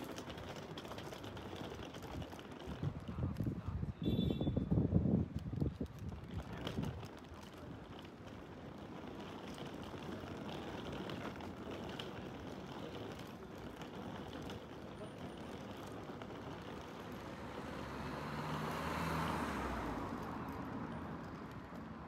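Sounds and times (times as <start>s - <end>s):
moving vehicle rumbling: 0.0s - 22.0s.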